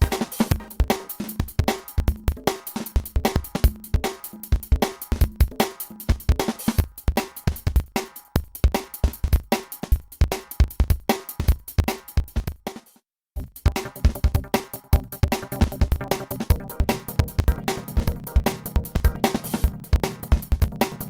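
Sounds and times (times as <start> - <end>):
music with fast drum beat: 0.0 - 21.0.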